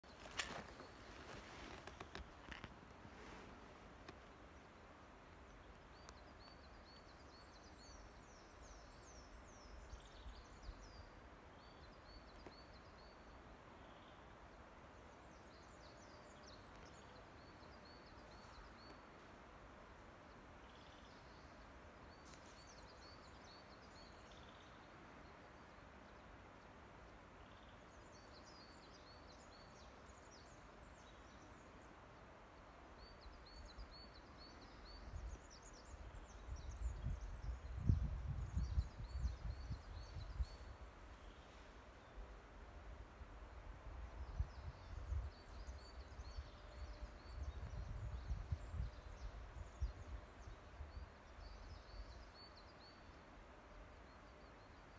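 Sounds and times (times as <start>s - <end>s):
low steady background hiss: 0.0s - 54.9s
songbirds singing: 0.0s - 54.9s.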